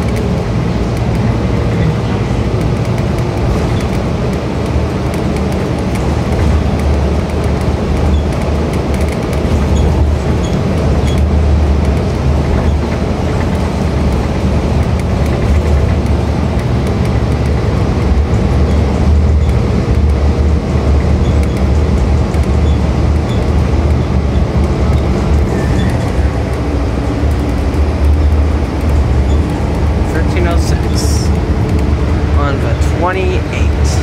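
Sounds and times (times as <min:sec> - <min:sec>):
bus engine drone: 0:00.0 - 0:34.0
road noise: 0:00.0 - 0:34.0.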